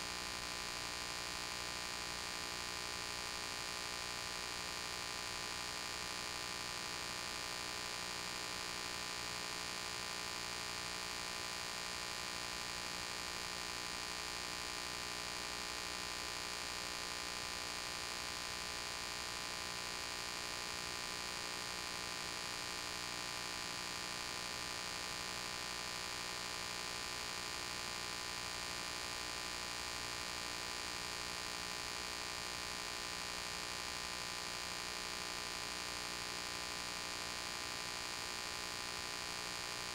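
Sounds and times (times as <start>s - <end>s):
electrical hum with hiss: 0.0s - 39.9s.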